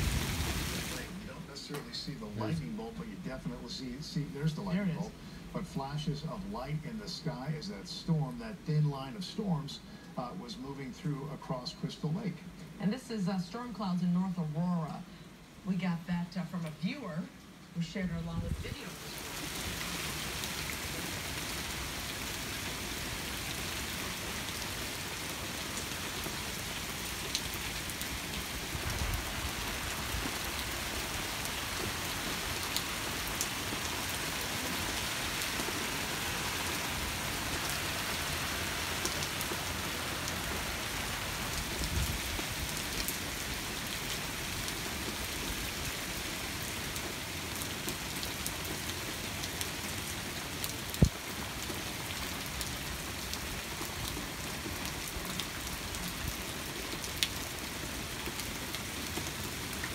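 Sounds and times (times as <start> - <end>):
steady rain hiss: 0.0 - 59.9
rain drop ticks: 0.9 - 12.8, 16.2 - 17.8, 23.8 - 46.0, 46.8 - 59.9.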